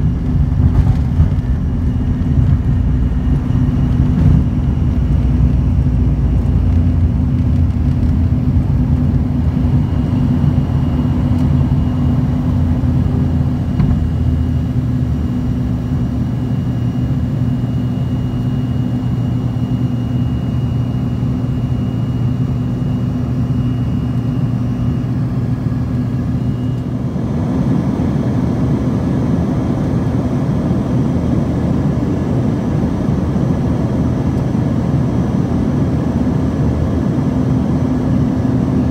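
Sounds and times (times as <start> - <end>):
faint high whine: 0.0 - 38.9
jet engines droning: 0.0 - 38.9.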